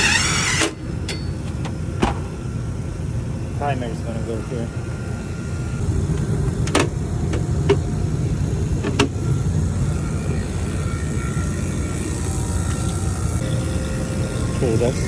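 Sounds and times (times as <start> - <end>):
refrigeration equipment rumble: 0.0 - 15.0.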